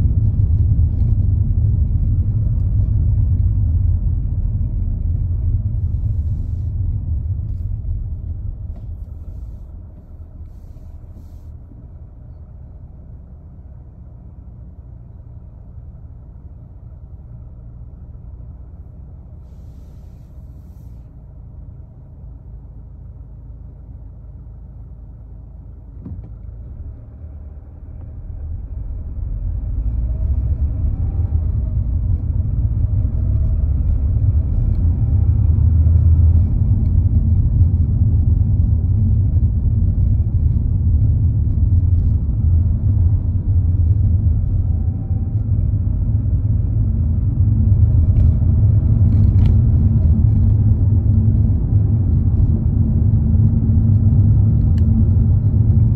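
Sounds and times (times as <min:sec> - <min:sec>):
road rumble inside car: 0:00.0 - 0:55.9.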